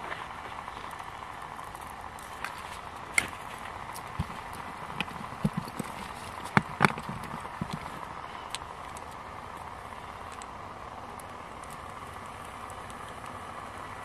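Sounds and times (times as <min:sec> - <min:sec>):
wood fire crackling and popping: 0:00.0 - 0:13.4.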